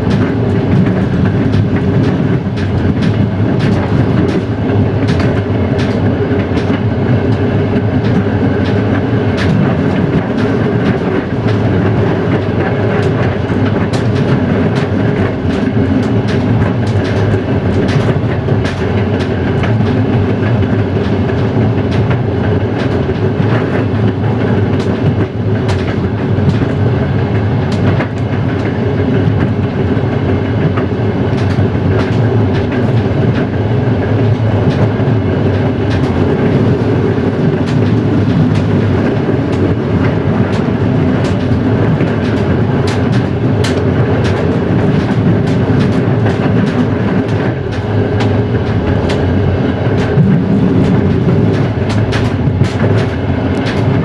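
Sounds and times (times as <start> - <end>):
wheel clicks over rail joints: 0.0 - 29.6, 30.6 - 54.0
train rolling rumble: 0.0 - 54.0.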